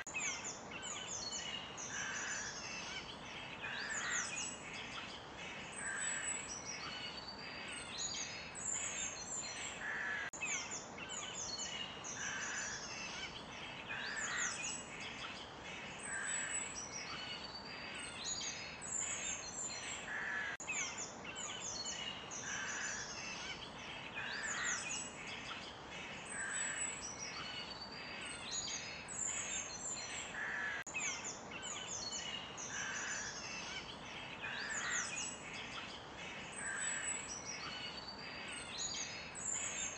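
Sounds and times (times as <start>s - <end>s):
forest birds chirping: 0.0s - 39.9s
steady background hiss: 0.1s - 39.9s.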